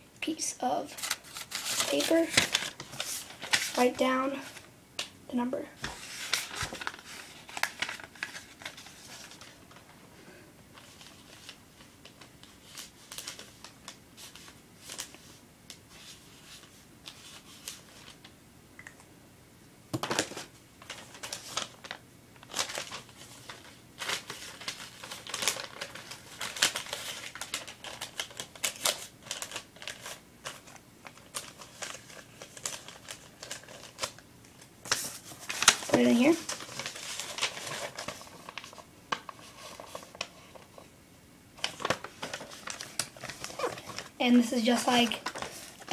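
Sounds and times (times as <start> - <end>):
paper rustling: 0.7 - 4.6, 5.7 - 10.0, 10.7 - 18.2, 20.0 - 34.2, 34.8 - 40.9, 41.6 - 45.9.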